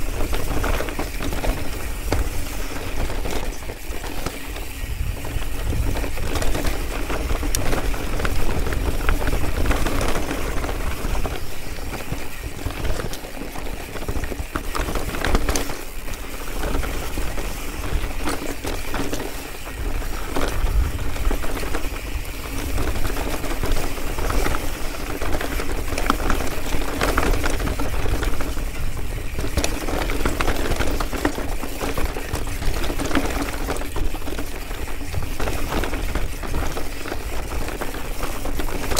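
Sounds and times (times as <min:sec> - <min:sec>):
bike clattering over rocks: 0:00.0 - 0:38.9
wind rumble on microphone: 0:00.0 - 0:38.9.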